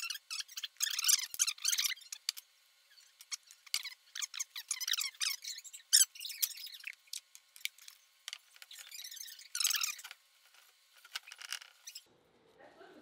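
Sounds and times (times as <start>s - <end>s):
sharp squeaks: 0.0s - 8.0s, 8.6s - 12.1s.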